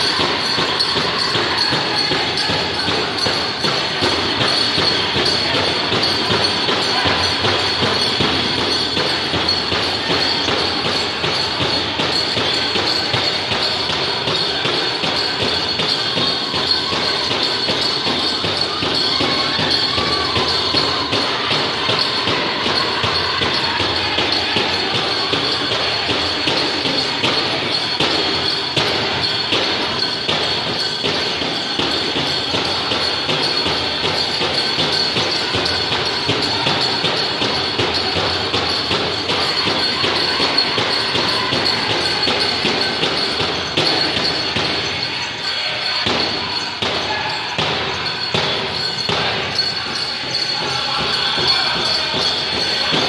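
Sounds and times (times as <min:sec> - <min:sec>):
big drum beating: 0:00.0 - 0:53.0
jingling bells: 0:00.0 - 0:53.0
people singing: 0:00.0 - 0:53.0.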